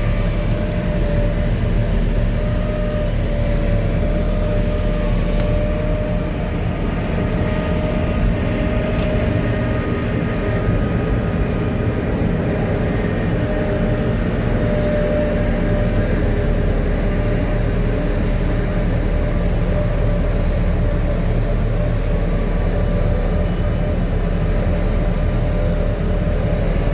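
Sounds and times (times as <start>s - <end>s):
diesel engine droning: 0.0s - 26.9s
snow blower whine: 0.0s - 26.9s.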